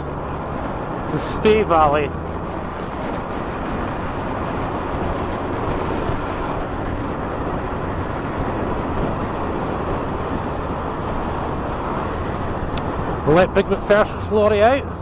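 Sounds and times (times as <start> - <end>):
motorcycle engine cruising: 0.0 - 15.0
wind rush on microphone: 0.0 - 15.0.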